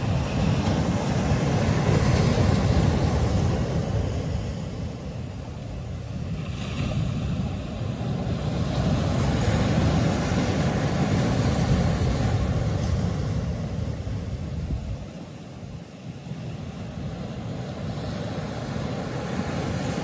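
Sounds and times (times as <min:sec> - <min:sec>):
ocean surf washing over boulders: 0:00.0 - 0:20.0.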